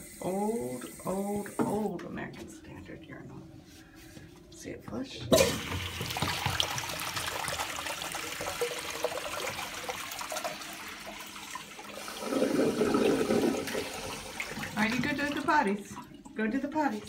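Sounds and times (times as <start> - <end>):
urinal flushing: 0.0 - 2.0, 3.9 - 17.0.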